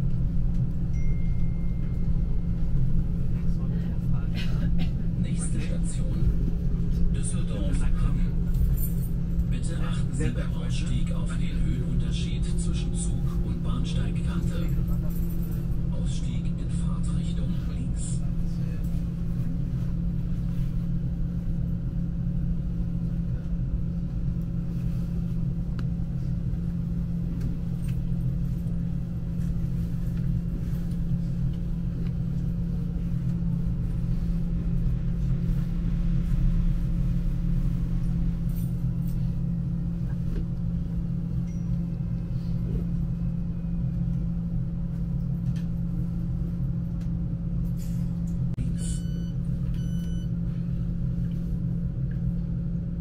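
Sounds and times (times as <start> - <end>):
faint high hum: 0.0 - 53.0.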